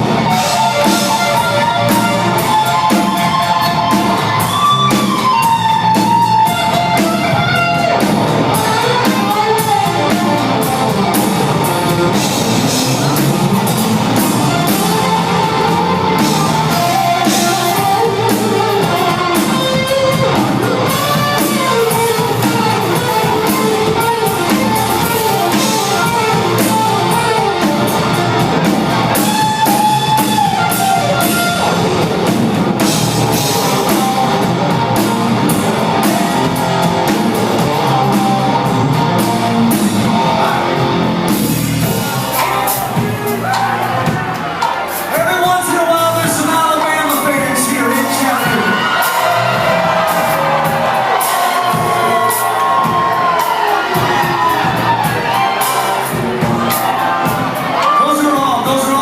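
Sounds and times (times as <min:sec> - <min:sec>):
live rock band: 0:00.0 - 0:59.0.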